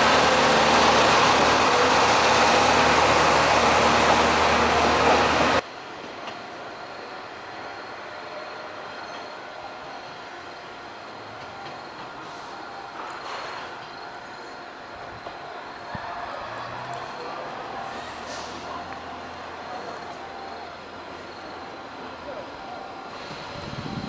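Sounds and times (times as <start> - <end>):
diesel railcar engine: 0.0 - 24.0
train wheels on rails: 0.0 - 24.0.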